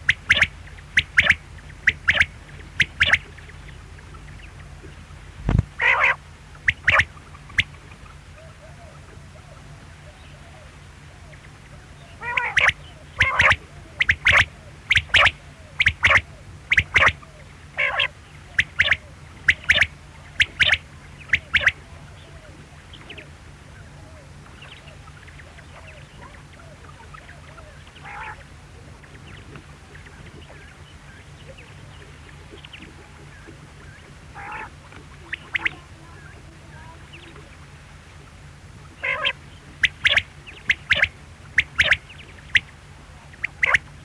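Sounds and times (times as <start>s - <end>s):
quail calling: 0.0s - 5.2s, 5.8s - 37.7s, 38.8s - 44.0s
steady low hum: 0.0s - 44.0s.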